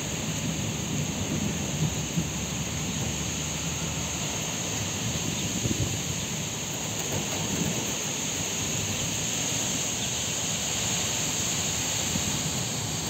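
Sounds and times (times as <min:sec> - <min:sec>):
wind gusting through trees: 0:00.0 - 0:13.0
wind buffeting microphone: 0:00.1 - 0:10.7.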